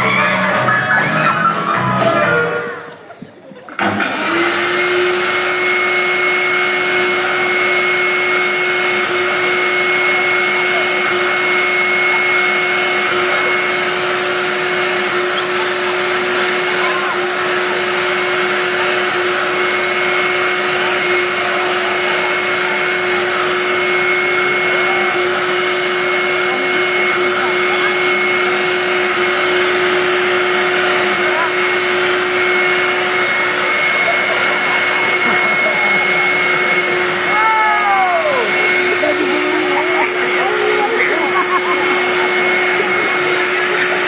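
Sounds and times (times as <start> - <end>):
vacuum cleaner running: 3.7 - 44.0.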